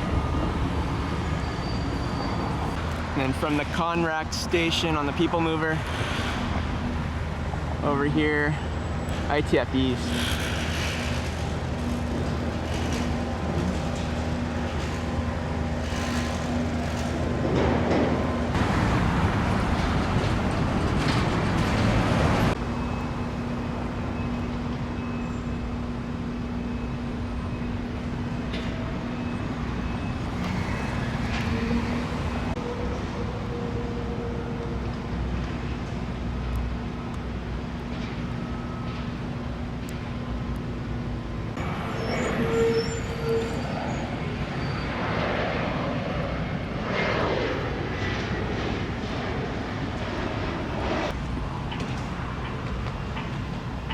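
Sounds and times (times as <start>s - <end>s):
passing traffic rush: 0.0s - 24.8s, 27.9s - 38.4s, 39.3s - 53.9s.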